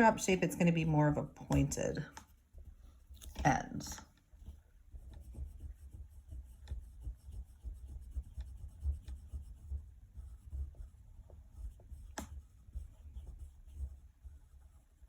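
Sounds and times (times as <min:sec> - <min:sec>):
pencil sketching on paper: 0:00.0 - 0:15.0.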